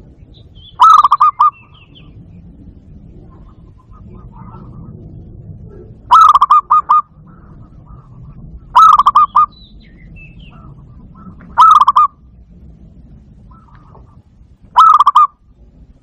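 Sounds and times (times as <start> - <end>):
faint bird chirping: 0.0 - 5.1, 5.7 - 12.2, 13.4 - 15.3
dove staccato cooing: 0.0 - 16.0.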